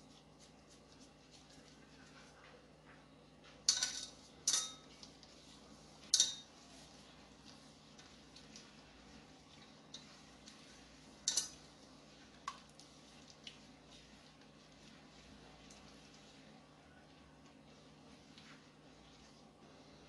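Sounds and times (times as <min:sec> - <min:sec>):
mixing rubbing and ticks: 0:00.0 - 0:02.6, 0:04.1 - 0:20.0.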